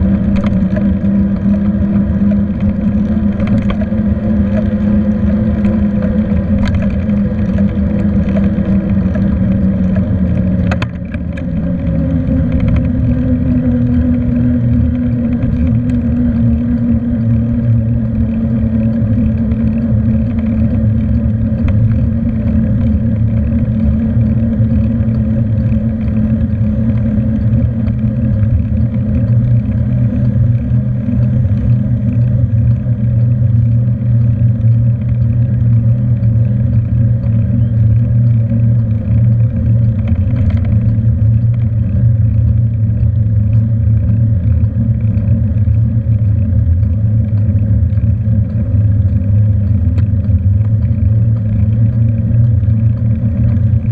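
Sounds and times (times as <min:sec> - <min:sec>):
bicycle road vibration: 0:00.0 - 0:53.9
wind rumble: 0:00.0 - 0:53.9.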